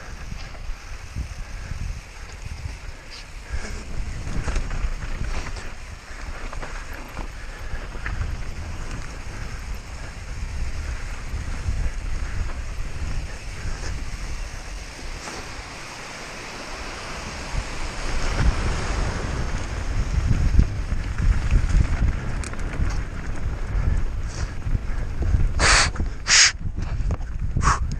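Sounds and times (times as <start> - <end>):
bike clicks and rattles: 0.0 - 27.9
wind buffeting microphone: 0.0 - 27.9.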